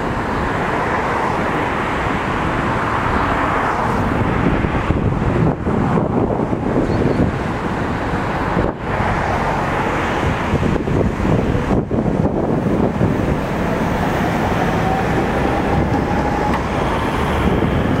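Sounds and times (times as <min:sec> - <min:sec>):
road traffic: 0:00.0 - 0:18.0
tram rumbling: 0:00.0 - 0:18.0.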